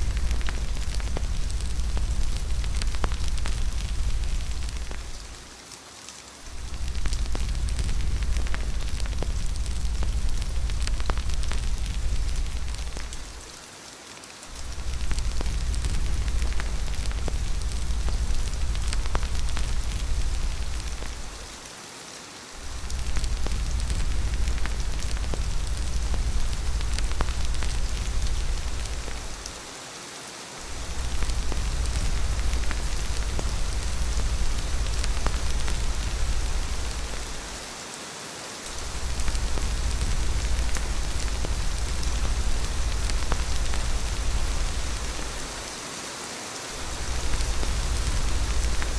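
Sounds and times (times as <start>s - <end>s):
deep low rumble: 0.0s - 5.4s, 6.5s - 13.4s, 14.5s - 21.5s, 22.6s - 29.6s, 30.7s - 37.7s, 38.8s - 45.7s, 46.8s - 48.9s
steady rain pattering: 0.0s - 48.9s.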